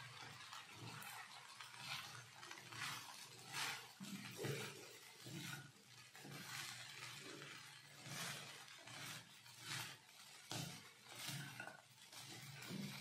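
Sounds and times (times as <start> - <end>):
spatula scraping in a pan: 0.0 - 13.0.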